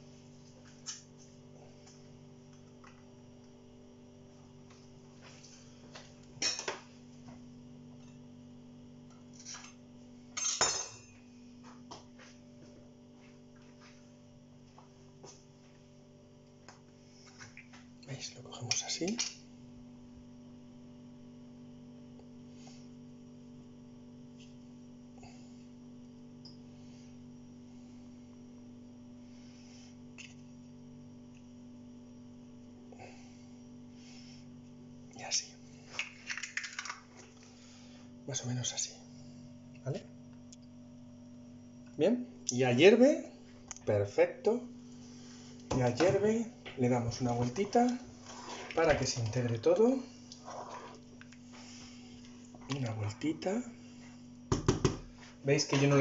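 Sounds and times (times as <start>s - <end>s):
induction hob humming: 0.0s - 38.3s, 39.0s - 56.0s.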